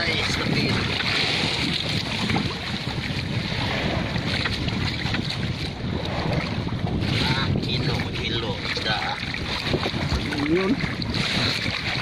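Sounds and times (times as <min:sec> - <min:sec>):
water splashing against boat: 0:00.0 - 0:12.0
wind on microphone: 0:00.0 - 0:12.0.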